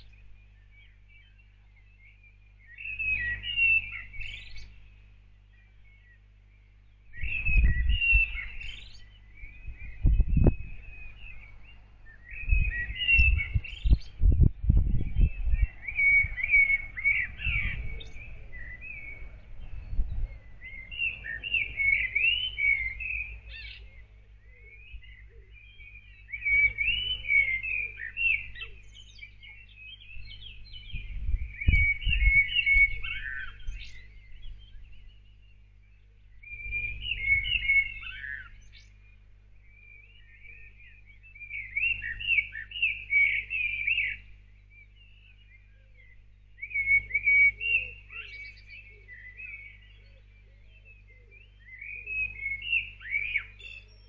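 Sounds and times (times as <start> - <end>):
songbird singing: 0.0 - 54.0
steady low hum: 0.0 - 54.0.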